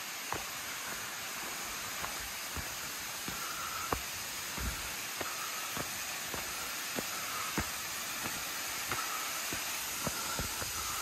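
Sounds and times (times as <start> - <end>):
waterfall rushing: 0.0 - 11.0
footsteps on dirt path: 0.2 - 11.0.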